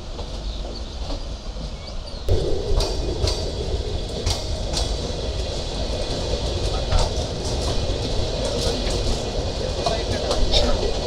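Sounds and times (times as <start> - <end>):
train wheels rumbling on track: 0.0 - 11.0
wheels clicking over rail joints: 0.0 - 11.0.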